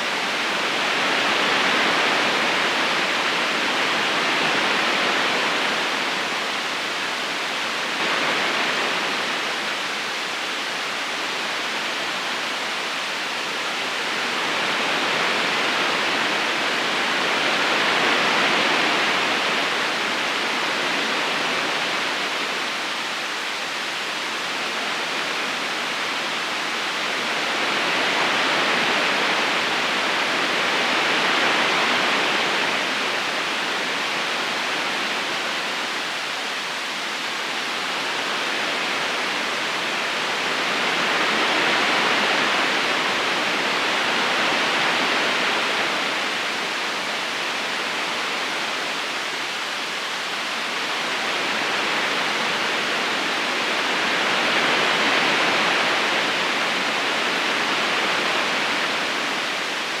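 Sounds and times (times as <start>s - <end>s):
river flowing over stones: 0.0s - 60.0s.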